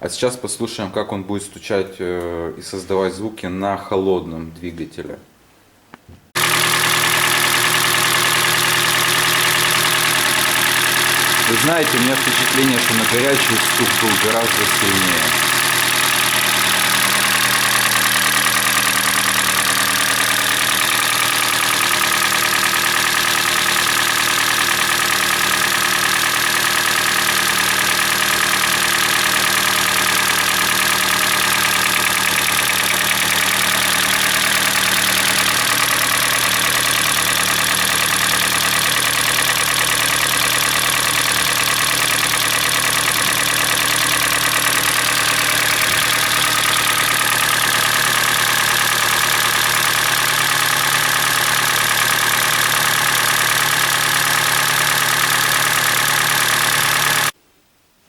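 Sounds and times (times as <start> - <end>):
car engine idling with knock: 6.4 - 57.4.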